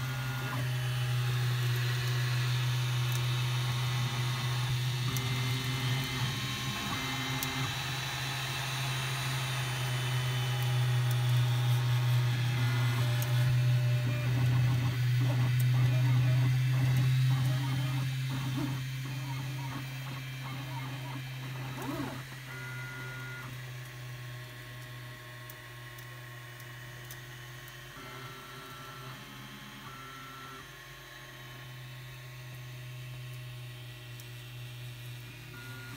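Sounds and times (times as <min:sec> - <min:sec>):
three-d printer humming and whining: 0:00.0 - 0:35.9.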